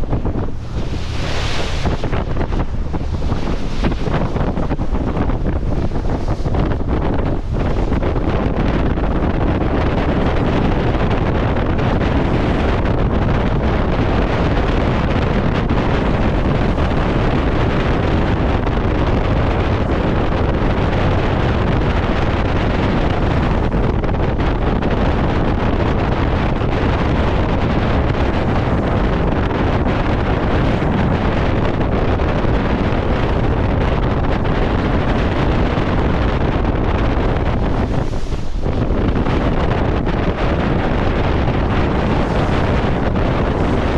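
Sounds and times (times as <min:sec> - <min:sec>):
wind noise on microphone: 0:00.0 - 0:43.9.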